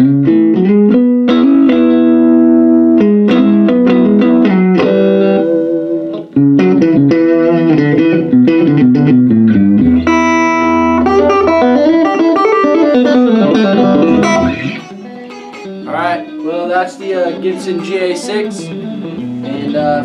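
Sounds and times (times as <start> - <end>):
clean electric guitar: 0.0 - 20.0.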